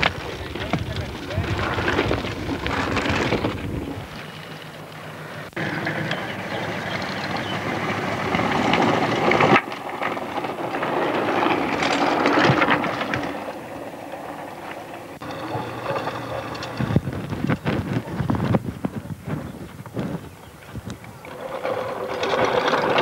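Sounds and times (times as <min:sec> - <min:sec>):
bike rattling: 0:00.0 - 0:23.0
tyres crunching on gravel: 0:00.0 - 0:23.0.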